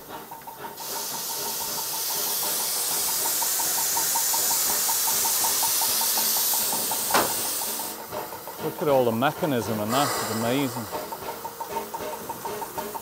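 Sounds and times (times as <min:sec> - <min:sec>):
steam hissing: 0:00.0 - 0:13.0.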